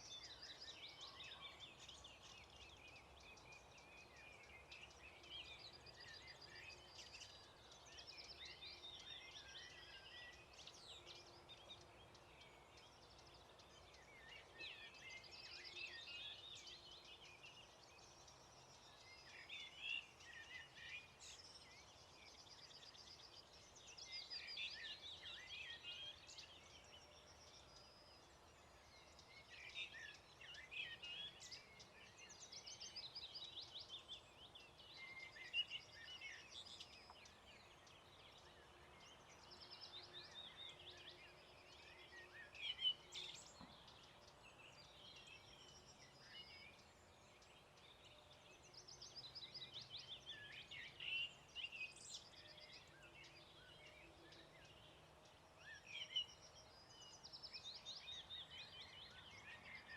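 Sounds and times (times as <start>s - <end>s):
low steady hiss: 0.0s - 59.9s
songbirds singing: 0.0s - 59.9s.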